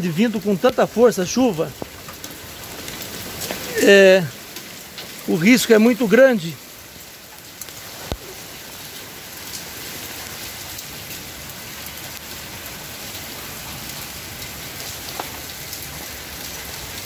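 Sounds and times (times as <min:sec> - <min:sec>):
hail and rain pelting a lawn: 0:00.0 - 0:17.0
hailstones ticking: 0:00.0 - 0:17.0.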